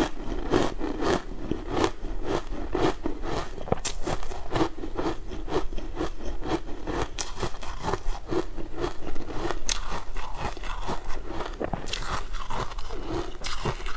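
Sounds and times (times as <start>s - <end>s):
chewing crunchy food: 0.0s - 13.9s.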